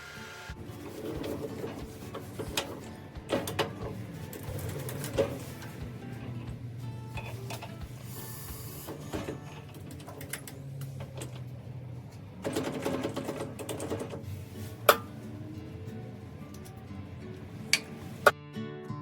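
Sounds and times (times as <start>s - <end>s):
lathe motor hum: 0.0s - 18.3s.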